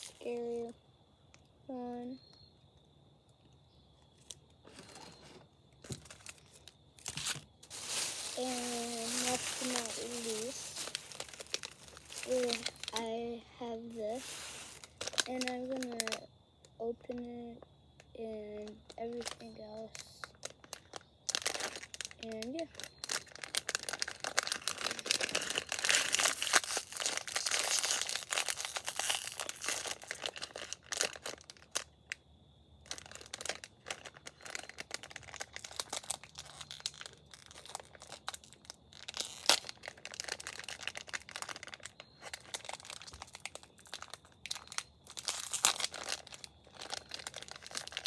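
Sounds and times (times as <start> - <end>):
packaging crinkling and tearing: 0.0 - 0.4, 4.2 - 13.2, 13.9 - 16.2, 18.6 - 31.9, 32.8 - 48.0.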